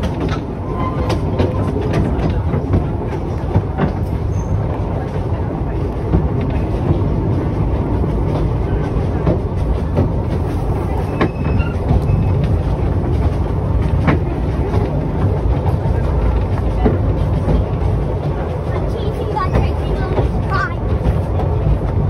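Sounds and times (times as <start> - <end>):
train rumbling: 0.0 - 22.0
wheels clicking on track: 0.0 - 22.0.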